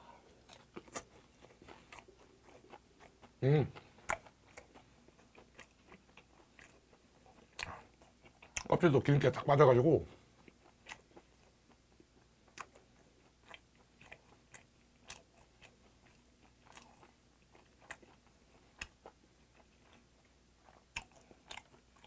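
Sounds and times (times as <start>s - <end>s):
chewing with wet mouth clicks: 0.3s - 8.8s, 10.1s - 22.0s.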